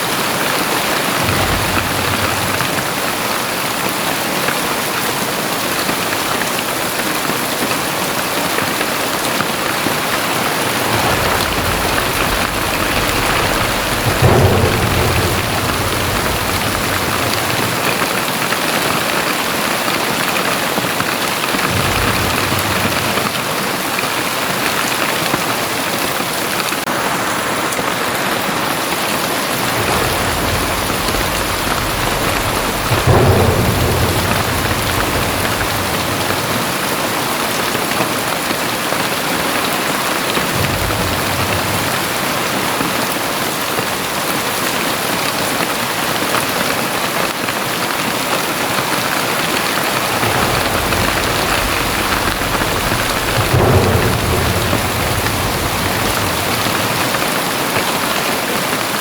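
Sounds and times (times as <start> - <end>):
heavy rain falling: 0.0 - 59.0
thunder rumbling: 0.0 - 59.0.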